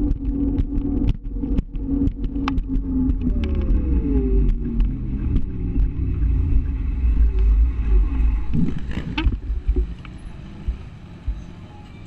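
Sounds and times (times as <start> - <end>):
scooter motor rumble: 0.0 - 11.4
road and wind noise: 0.0 - 12.0.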